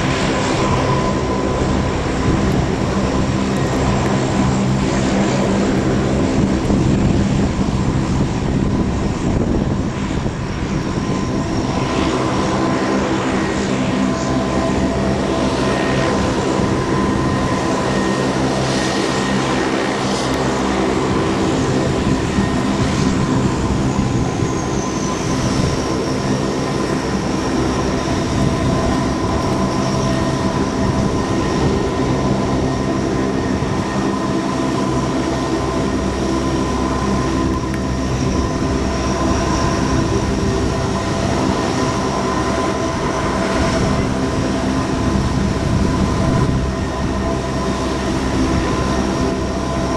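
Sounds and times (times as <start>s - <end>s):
high turbine whine: 0.0s - 49.9s
turboprop engines running: 0.0s - 49.9s.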